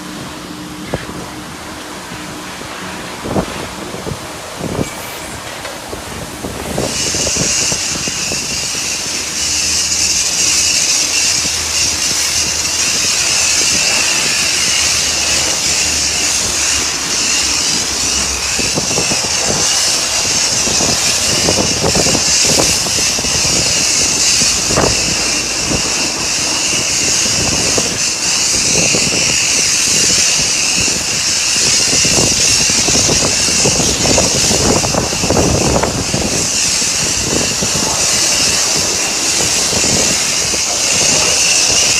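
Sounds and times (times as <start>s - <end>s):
pressure washer spraying: 0.8s - 41.9s.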